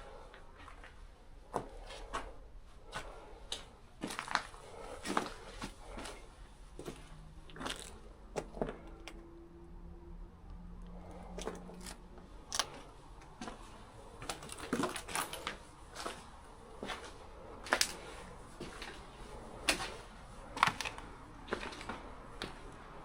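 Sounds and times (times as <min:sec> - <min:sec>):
crunching footsteps: 0:00.6 - 0:09.2, 0:10.9 - 0:22.7.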